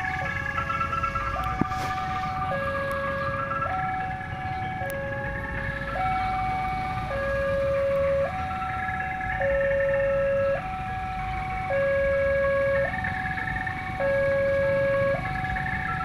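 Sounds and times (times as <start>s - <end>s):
level crossing two-tone alarm: 0.0s - 16.0s.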